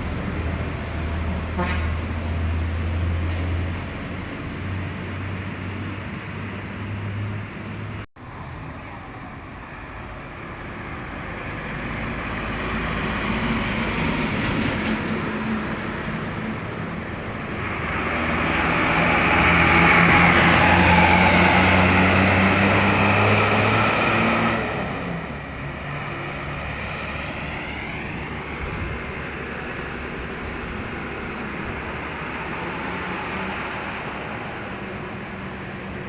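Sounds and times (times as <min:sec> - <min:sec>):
bus engine running: 0:00.0 - 0:36.0
road traffic: 0:00.0 - 0:36.0.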